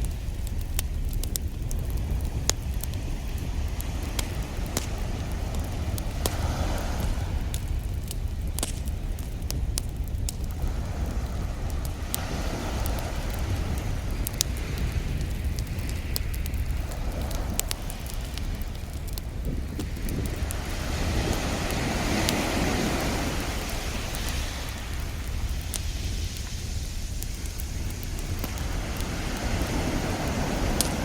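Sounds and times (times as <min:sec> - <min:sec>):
wood fire crackling: 0:00.0 - 0:31.0
ocean waves washing in: 0:01.9 - 0:08.3, 0:10.4 - 0:31.0.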